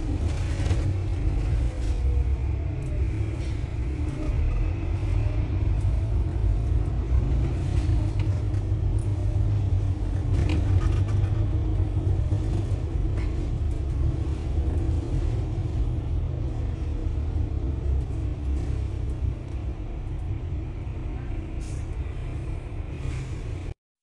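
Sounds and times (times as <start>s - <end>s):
bus engine and road rumble: 0.0s - 23.8s.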